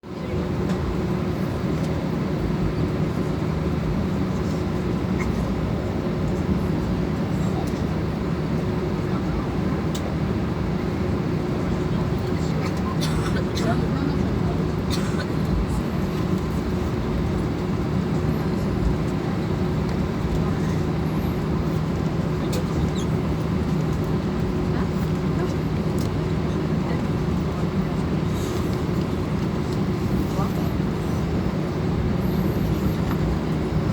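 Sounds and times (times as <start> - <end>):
jet engines running at low power: 0.0 - 33.9.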